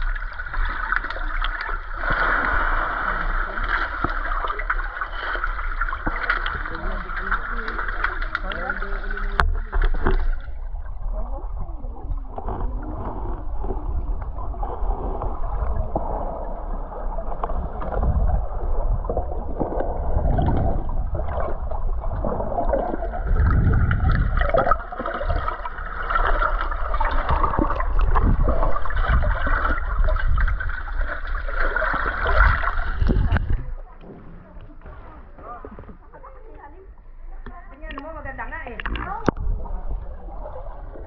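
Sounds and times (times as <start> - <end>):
low underwater rumble: 0.0 - 41.0
underwater water sloshing: 0.0 - 41.0.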